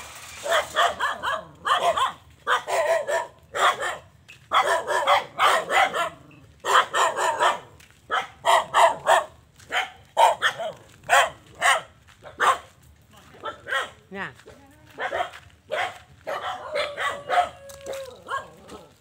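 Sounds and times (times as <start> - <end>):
dog barking: 0.4 - 14.1, 14.9 - 18.9.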